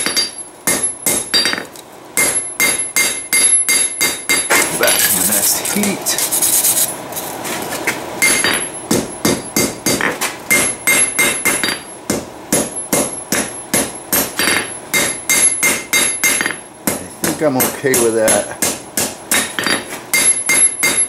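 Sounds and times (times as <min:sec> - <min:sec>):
hammer striking hot steel on anvil: 0:00.0 - 0:05.2, 0:08.2 - 0:21.0.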